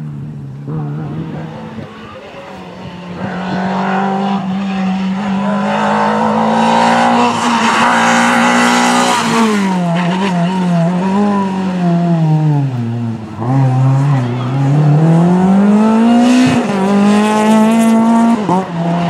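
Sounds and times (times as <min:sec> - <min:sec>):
car engine at high revs passing: 0:00.0 - 0:19.0.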